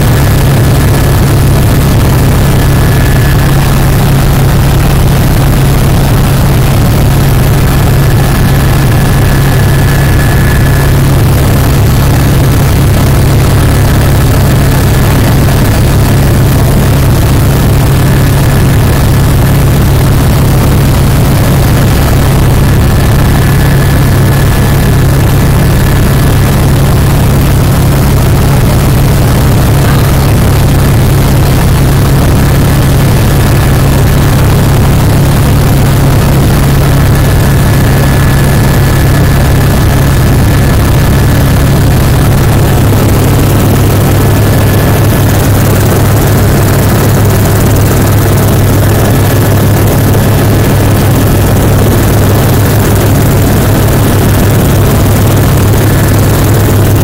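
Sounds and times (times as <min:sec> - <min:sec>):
helicopter rotor drone: 0:00.0 - 0:57.0.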